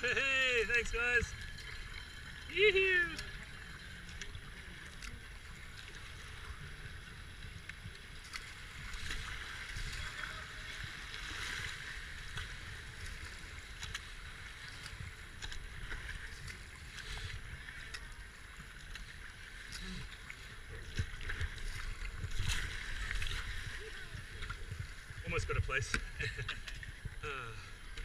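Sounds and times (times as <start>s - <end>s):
paddle stroke splashes: 0.0s - 28.0s
water rushing and splashing: 0.0s - 28.0s.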